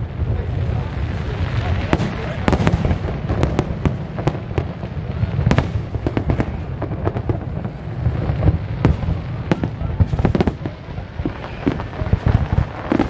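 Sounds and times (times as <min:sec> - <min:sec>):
continuous low rumble: 0:00.0 - 0:13.0
fireworks bangs: 0:00.0 - 0:13.0.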